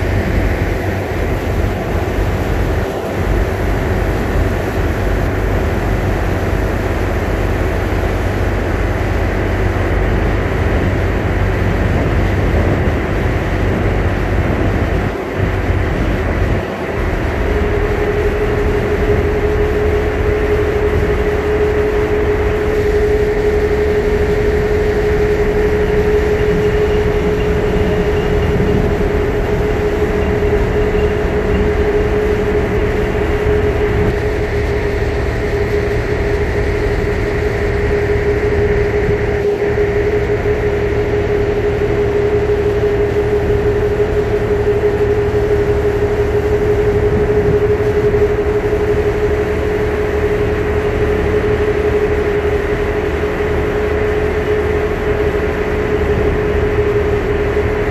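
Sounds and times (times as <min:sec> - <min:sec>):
boat engines droning with whine: 0:00.0 - 0:57.9.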